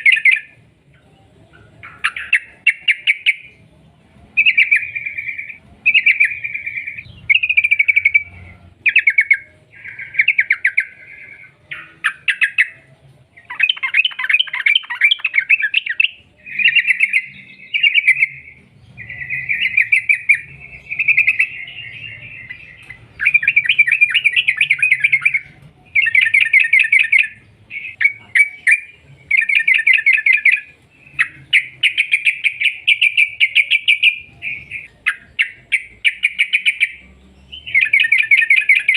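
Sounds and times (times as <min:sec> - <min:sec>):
bird singing chattering notes: 0:00.0 - 0:03.7, 0:04.3 - 0:38.9.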